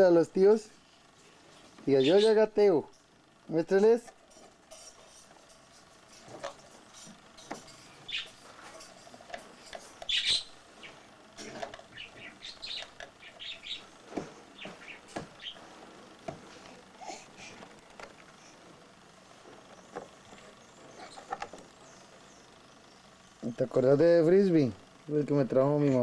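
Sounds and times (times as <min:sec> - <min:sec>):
cage birds chirping: 0:01.8 - 0:02.7, 0:03.3 - 0:26.0.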